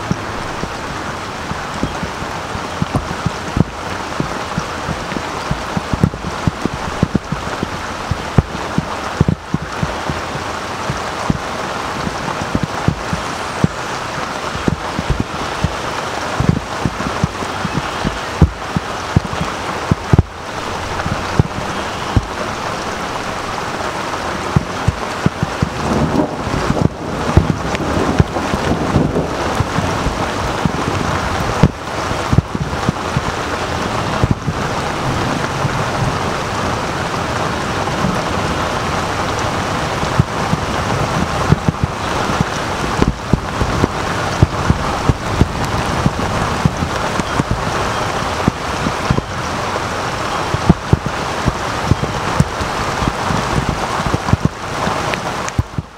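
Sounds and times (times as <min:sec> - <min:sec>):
raindrops thumping microphone cover: 0:00.0 - 0:55.9
steady rain falling: 0:00.0 - 0:55.9.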